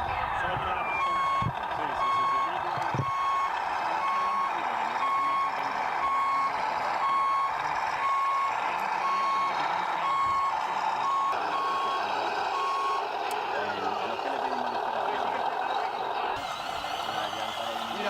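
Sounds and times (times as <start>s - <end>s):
reversing alarm beeping: 0.3s - 14.4s, 16.4s - 18.0s.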